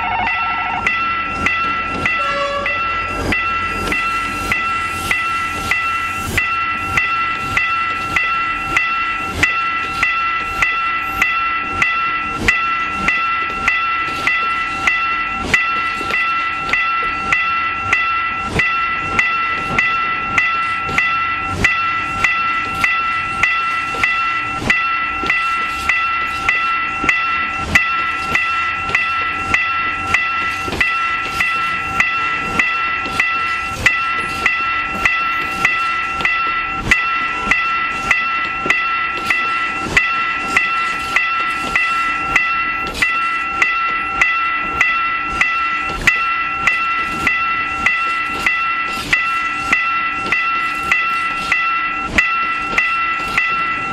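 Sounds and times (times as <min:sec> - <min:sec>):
freight wagons rolling on rails: 0:00.0 - 0:53.9
level crossing bell dinging: 0:00.0 - 0:53.9.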